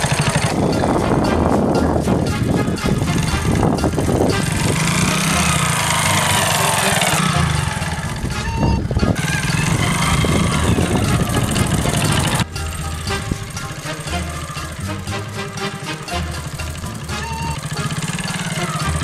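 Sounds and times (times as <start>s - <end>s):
background music: 0.0s - 19.0s
small motorcycle engine: 0.0s - 19.0s.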